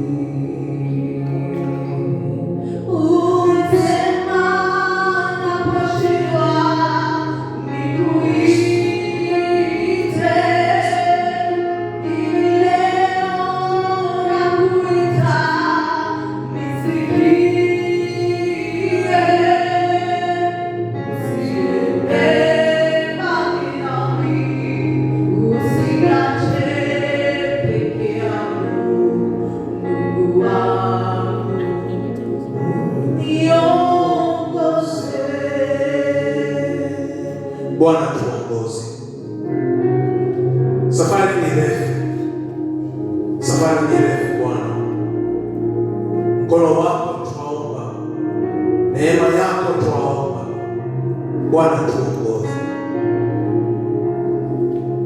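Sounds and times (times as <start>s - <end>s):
choir singing gospel song: 0.0s - 55.0s
low accompaniment: 0.0s - 55.0s.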